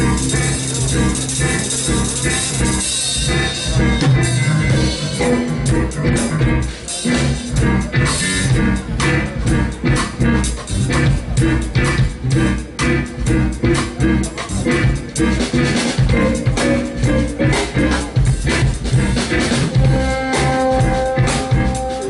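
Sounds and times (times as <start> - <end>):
live jazz band playing: 0.0 - 22.0.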